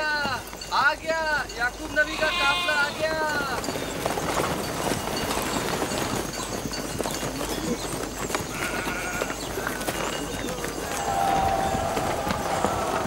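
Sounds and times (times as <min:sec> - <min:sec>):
horse hooves clip-clopping: 0:00.0 - 0:13.0.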